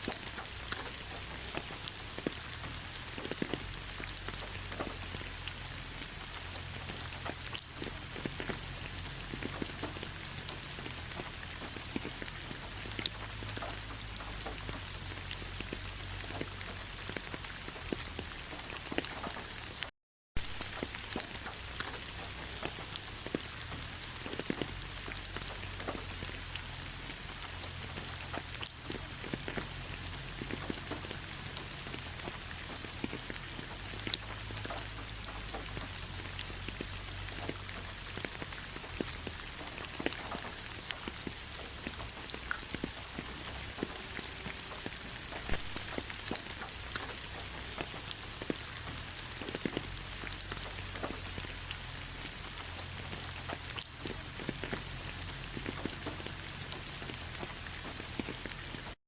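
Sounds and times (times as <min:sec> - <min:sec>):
rain pattering on leaves: 0:00.0 - 0:59.0.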